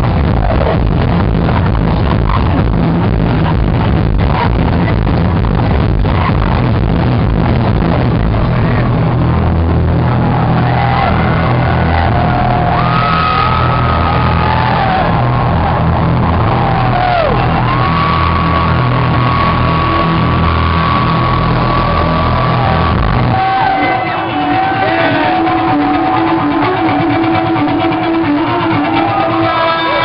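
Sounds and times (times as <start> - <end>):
dance music with heavy bass: 0.0 - 30.0
guitar rock music: 0.0 - 30.0.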